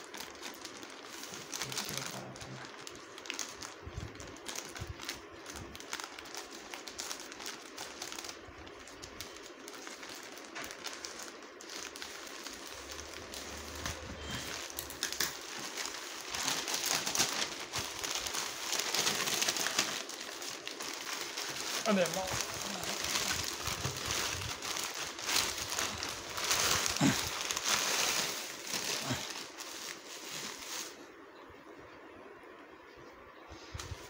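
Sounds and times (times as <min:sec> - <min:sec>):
plastic mailer crinkling: 0:00.0 - 0:31.1.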